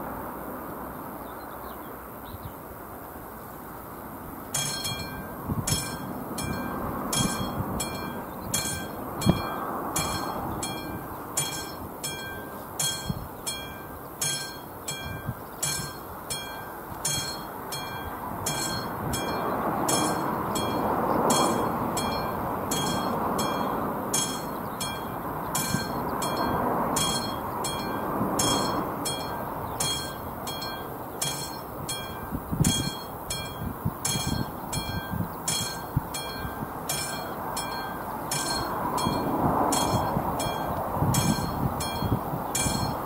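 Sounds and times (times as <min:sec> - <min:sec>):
level crossing warning bell ringing: 0:04.5 - 0:43.0
steady background rush: 0:04.5 - 0:43.0.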